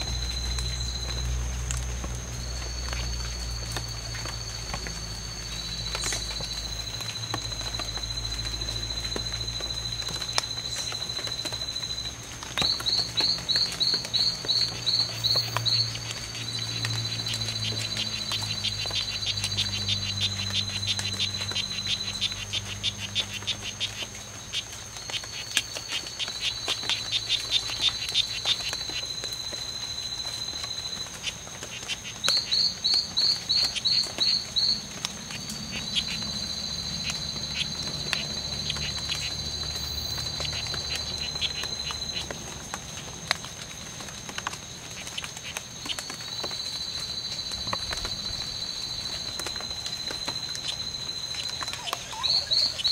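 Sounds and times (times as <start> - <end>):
frogs buzzing chirps: 0.0 - 52.9
high insect whine: 0.0 - 52.9.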